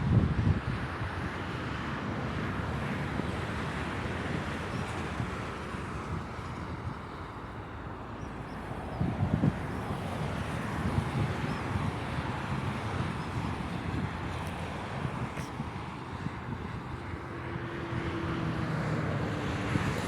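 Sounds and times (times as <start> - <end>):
vehicle engines on road: 0.0 - 20.0
wind rumbling on microphone: 0.0 - 20.0.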